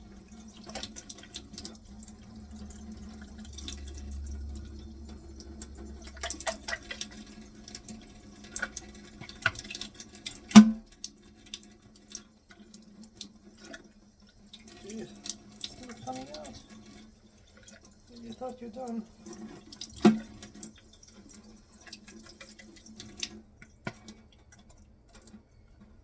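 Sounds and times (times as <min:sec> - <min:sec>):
water running from tap: 0:00.0 - 0:25.4.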